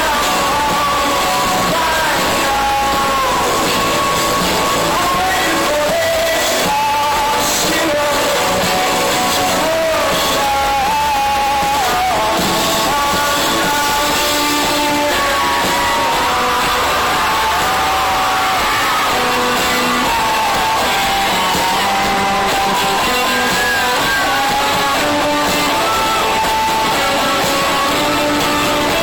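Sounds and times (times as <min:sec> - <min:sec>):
lead vocal singing: 0:00.0 - 0:29.0
rock band playing loud: 0:00.0 - 0:29.0.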